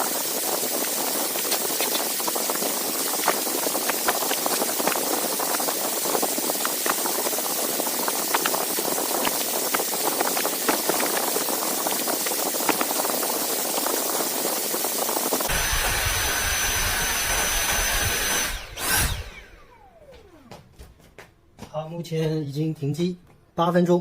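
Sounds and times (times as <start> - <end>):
cordless vacuum cleaner running: 0.0 - 20.6.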